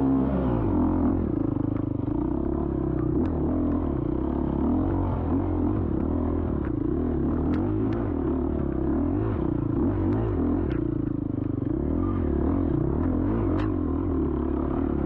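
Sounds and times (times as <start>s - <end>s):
dirt bike engine revving: 0.0s - 15.0s
bike clicks and clatters: 1.4s - 15.0s.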